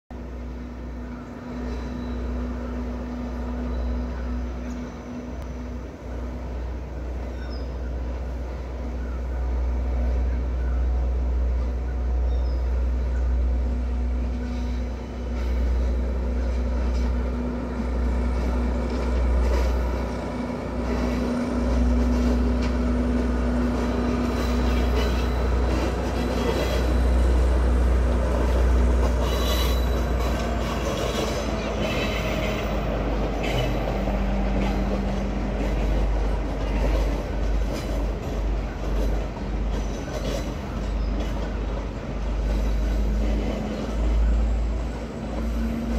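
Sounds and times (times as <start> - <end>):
train engine hum: 0.1 - 45.9
wheels clicking and screeching on rails: 0.2 - 45.9.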